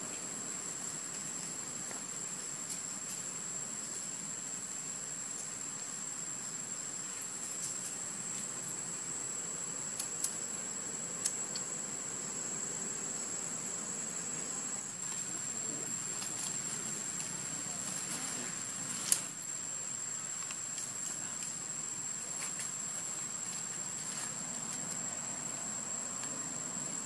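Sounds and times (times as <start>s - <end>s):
background hiss: 0.0s - 27.0s
insect drone: 0.0s - 27.0s.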